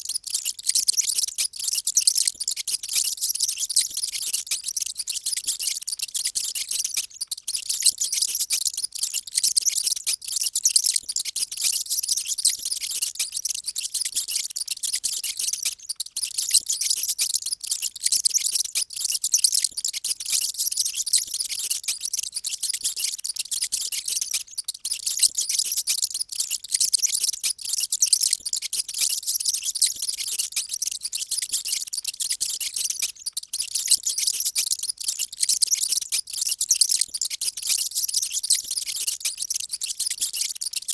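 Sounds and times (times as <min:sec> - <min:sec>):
mice squeaking: 0:00.0 - 0:40.9.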